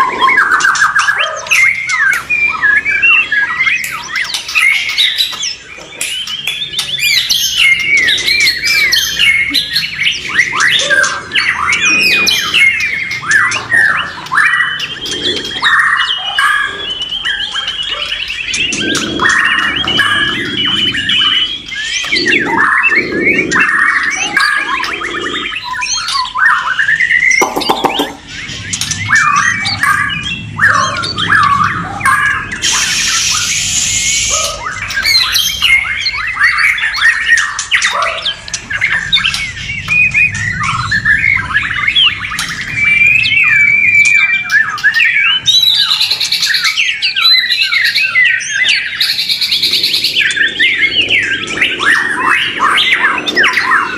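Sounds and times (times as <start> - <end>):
birds singing whistled phrases: 0.0 - 53.9
harsh rasping bird calls: 0.0 - 53.9.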